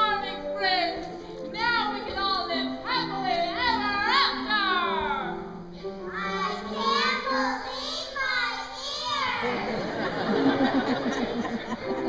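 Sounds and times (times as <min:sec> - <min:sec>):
piano accompaniment: 0:00.0 - 0:12.0.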